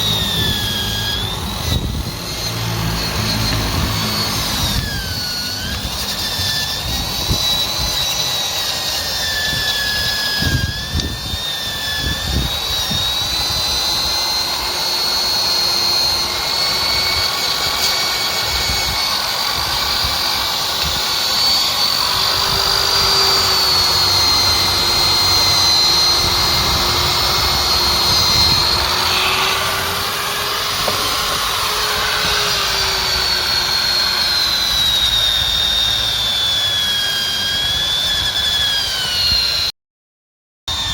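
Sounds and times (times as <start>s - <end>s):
electric drill motor whine: 0.0s - 39.8s.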